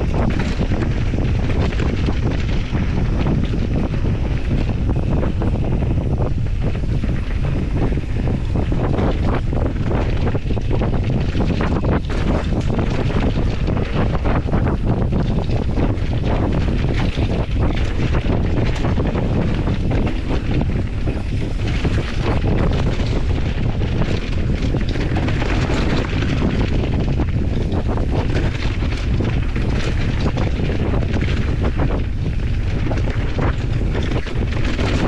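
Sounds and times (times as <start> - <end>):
bike knocking and rattling: 0.0 - 35.0
wind rumble on microphone: 0.0 - 35.0.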